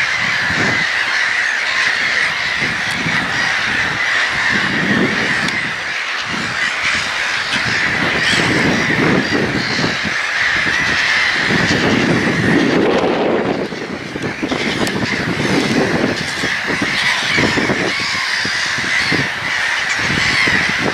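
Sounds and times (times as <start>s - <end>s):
gulls calling: 0.0s - 20.9s.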